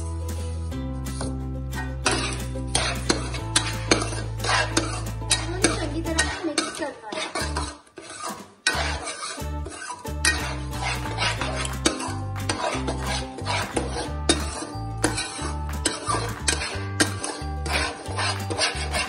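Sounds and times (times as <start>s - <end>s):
background music with bass: 0.0s - 6.2s, 8.8s - 19.0s
metal spatula scraping metal pan: 0.0s - 19.0s.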